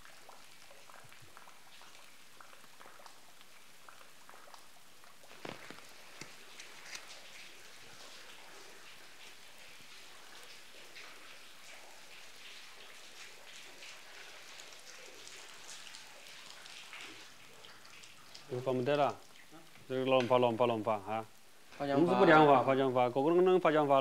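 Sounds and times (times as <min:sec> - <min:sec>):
light rain patter: 0:00.0 - 0:24.0.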